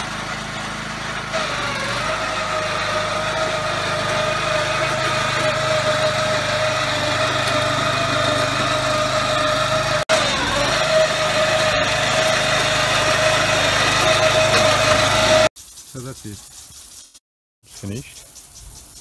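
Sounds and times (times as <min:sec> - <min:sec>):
small petrol engine running: 0:00.0 - 0:15.5.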